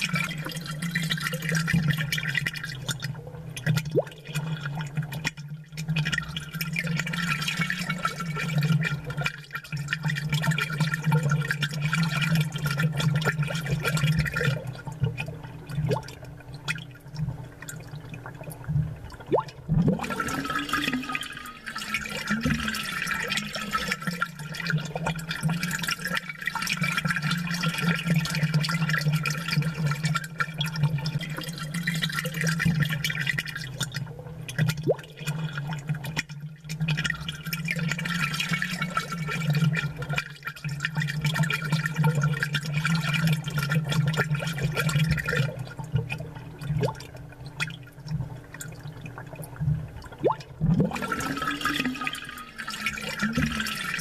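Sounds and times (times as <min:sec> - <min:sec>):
aquarium water bubbling: 0:00.0 - 0:54.0.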